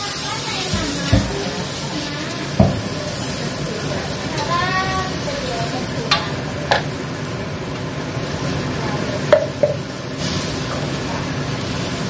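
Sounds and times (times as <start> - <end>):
paste sizzling in a wok: 0.0 - 12.0.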